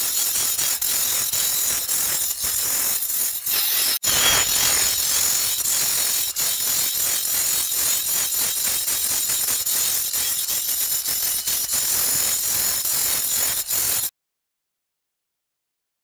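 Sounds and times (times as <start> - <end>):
angle grinder grinding stone: 0.0 - 14.1
disc scraping stone: 0.0 - 14.1.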